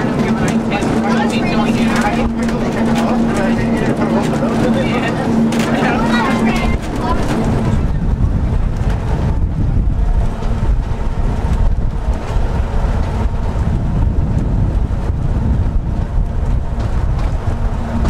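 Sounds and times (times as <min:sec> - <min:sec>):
tramcar running on track: 0:00.0 - 0:18.0
wind buffeting microphone: 0:00.0 - 0:18.0.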